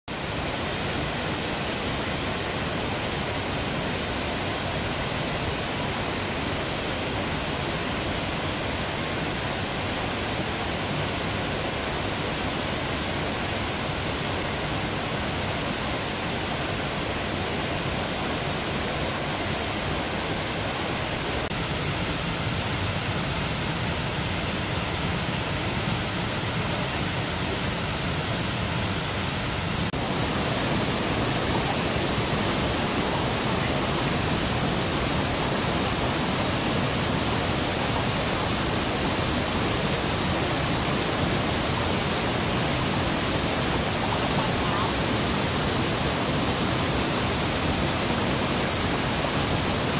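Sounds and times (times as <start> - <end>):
waterfall and stream rapids rushing: 0.1 - 49.9.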